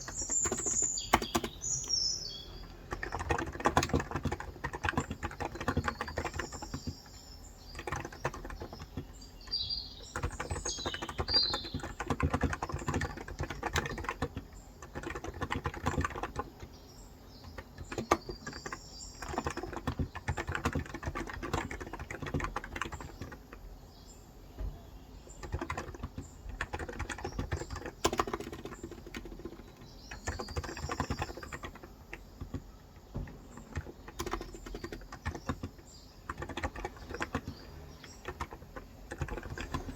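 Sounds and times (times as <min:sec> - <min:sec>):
typing on a keyboard: 0:00.0 - 0:23.7, 0:24.7 - 0:39.9
birds chirping: 0:00.0 - 0:39.9.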